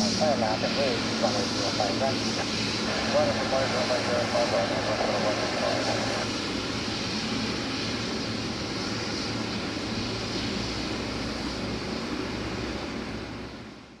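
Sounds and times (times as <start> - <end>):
jet aircraft hum and hiss: 0.0 - 14.0.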